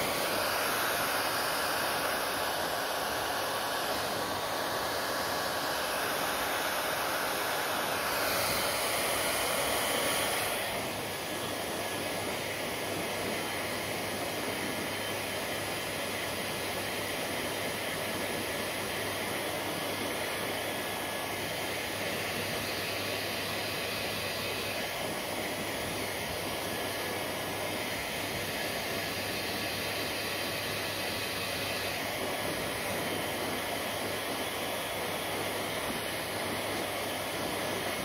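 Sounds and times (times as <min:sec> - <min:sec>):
hair dryer blowing: 0:00.0 - 0:38.0.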